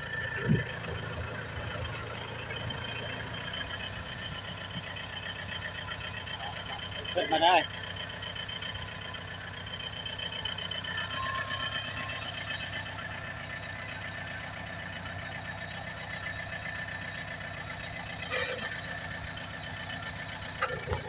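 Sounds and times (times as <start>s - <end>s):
tractor engine knocking: 0.0s - 21.0s.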